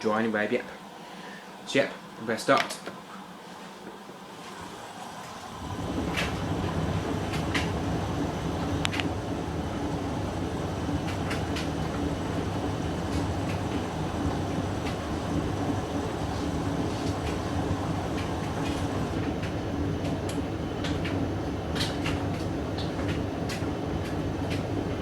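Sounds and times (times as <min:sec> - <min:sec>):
washing machine motor hum: 0:03.3 - 0:25.0.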